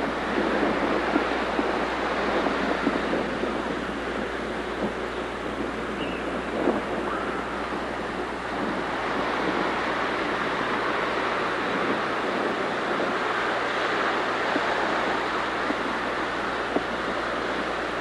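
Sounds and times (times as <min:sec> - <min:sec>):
ocean surf washing: 0:00.0 - 0:18.0
wind: 0:00.0 - 0:18.0.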